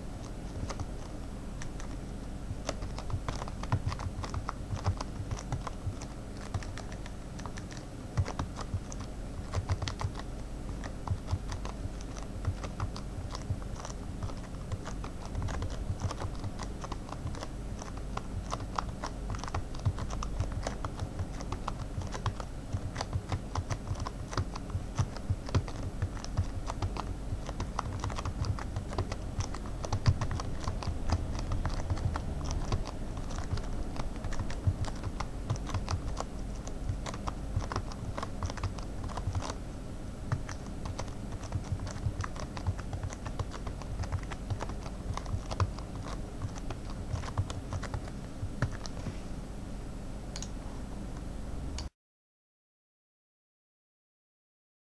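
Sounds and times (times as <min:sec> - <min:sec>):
soft keyboard typing: 0:00.0 - 0:39.6, 0:40.3 - 0:49.0.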